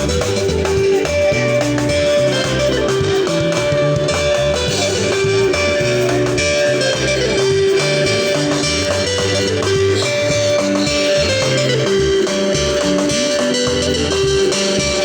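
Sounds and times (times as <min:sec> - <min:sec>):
band music with electric guitar: 0:00.0 - 0:15.0.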